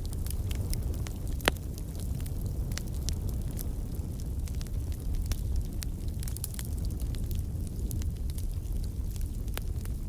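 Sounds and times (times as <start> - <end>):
burning wood crackling and popping: 0.0 - 10.0
wood fire rumbling: 0.0 - 10.0.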